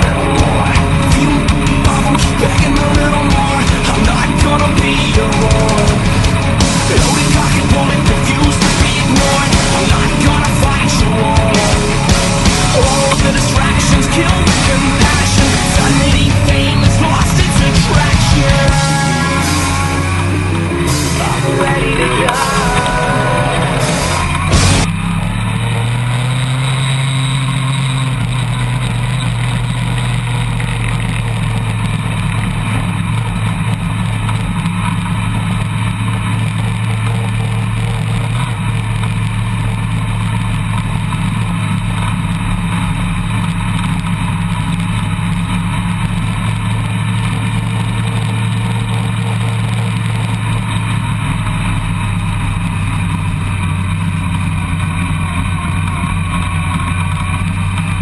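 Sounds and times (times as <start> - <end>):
off-road vehicle engine drone: 0.0 - 58.0
rushing noise: 0.0 - 58.0.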